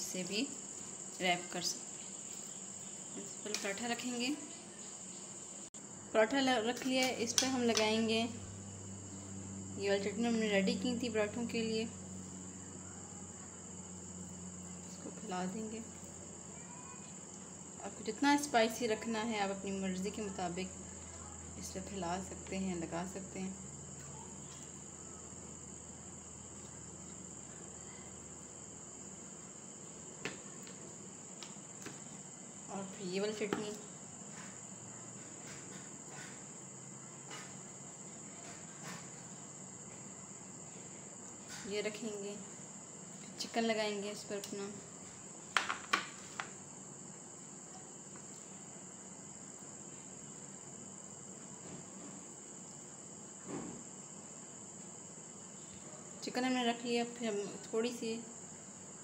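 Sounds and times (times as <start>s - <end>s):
cricket trilling: 0.0s - 59.0s.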